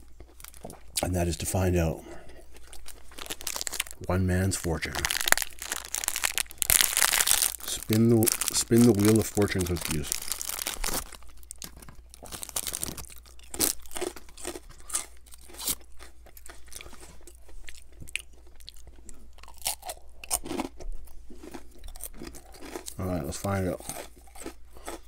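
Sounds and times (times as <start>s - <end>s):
cookie crunching: 0.0s - 25.0s.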